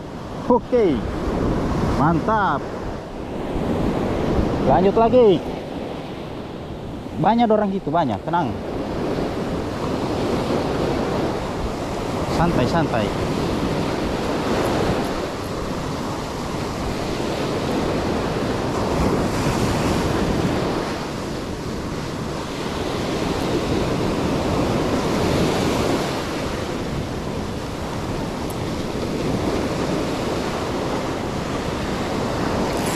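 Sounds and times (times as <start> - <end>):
surf breaking on a beach: 0.0 - 32.9
wind noise on microphone: 0.0 - 32.9.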